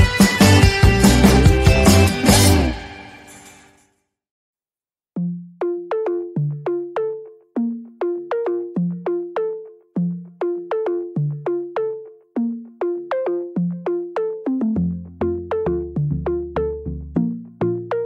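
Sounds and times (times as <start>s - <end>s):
electronic keyboard music: 0.0s - 3.5s, 5.2s - 18.0s
background music: 0.0s - 3.8s, 5.2s - 18.0s.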